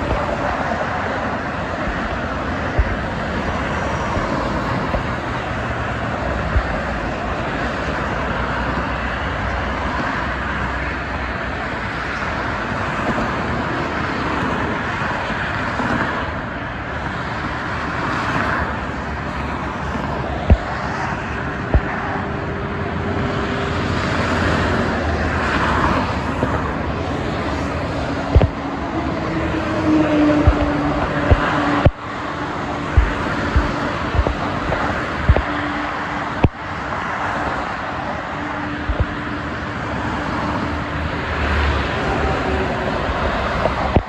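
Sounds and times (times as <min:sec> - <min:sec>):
highway traffic noise: 0:00.0 - 0:44.0.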